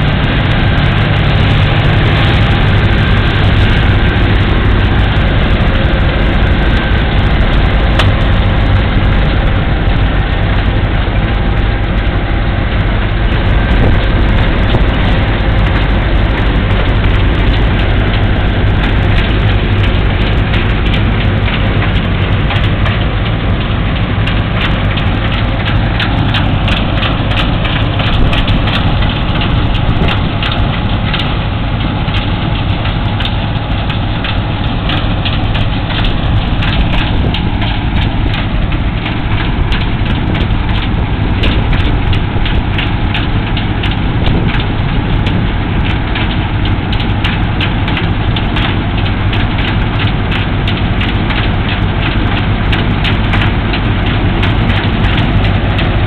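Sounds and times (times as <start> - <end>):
diesel engine droning under load: 0.0 - 56.0
threshing machinery clatter: 0.0 - 56.0.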